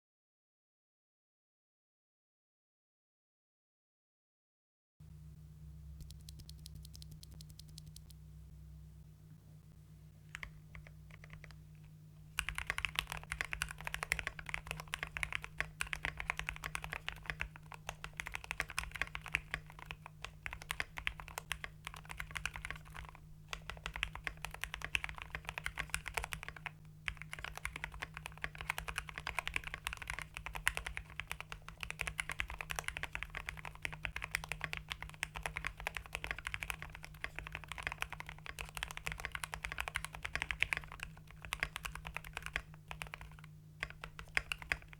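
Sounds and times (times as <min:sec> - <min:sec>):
mechanical keyboard typing: 0:06.0 - 0:08.2, 0:10.3 - 0:44.9.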